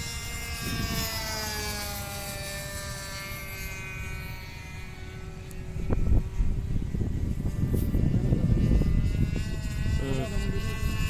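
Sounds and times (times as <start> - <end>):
model airplane engine droning: 0.0 - 11.0
wind rumbling on microphone: 0.0 - 11.0.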